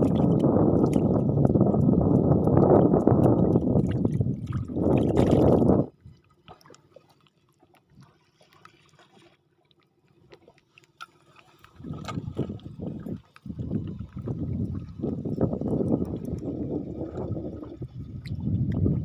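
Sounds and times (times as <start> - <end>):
water sloshing around boat: 0.0 - 19.0.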